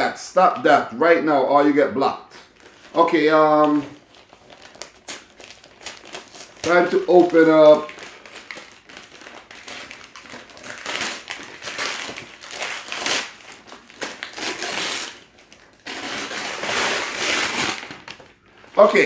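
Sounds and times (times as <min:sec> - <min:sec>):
paper crumpling: 0:02.4 - 0:19.0
wrapping paper tearing: 0:02.4 - 0:19.0.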